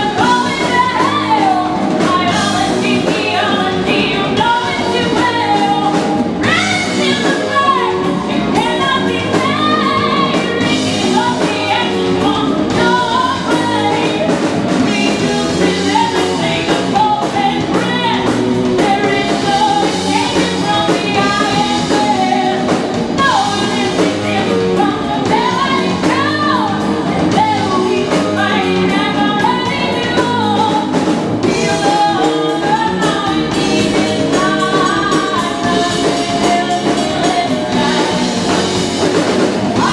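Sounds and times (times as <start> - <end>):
bass guitar: 0.0 - 39.9
distorted electric guitar: 0.0 - 39.9
drum kit with cymbals: 0.0 - 39.9
woman singing: 0.0 - 39.9.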